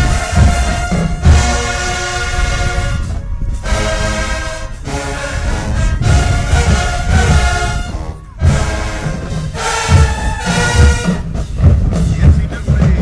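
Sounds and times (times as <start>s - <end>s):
bass drum beats: 0.0s - 4.4s, 5.5s - 13.0s
brass section playing chords: 0.0s - 13.0s.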